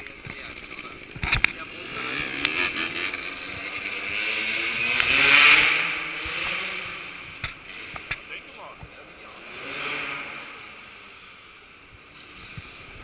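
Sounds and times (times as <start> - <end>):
motocross bike engine passing: 0.0 - 13.0.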